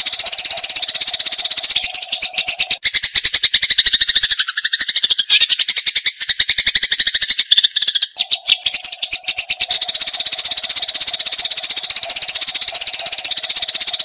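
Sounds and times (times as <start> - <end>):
sparrows chirping rapidly: 0.0 - 14.0.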